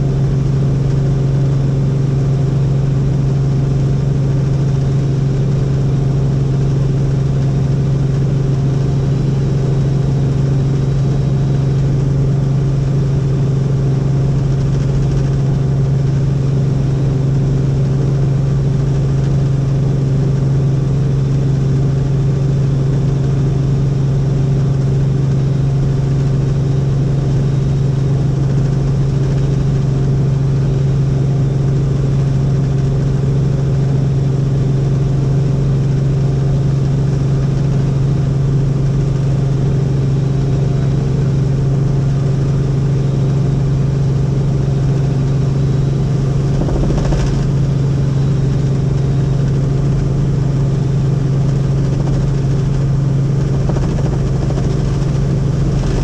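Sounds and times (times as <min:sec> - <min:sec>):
helicopter rotor drone: 0:00.0 - 0:56.0.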